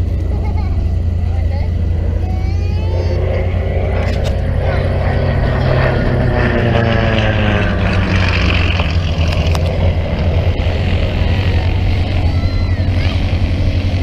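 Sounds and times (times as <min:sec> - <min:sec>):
low rumble: 0:00.0 - 0:14.0
propeller airplane passing by: 0:00.0 - 0:14.0.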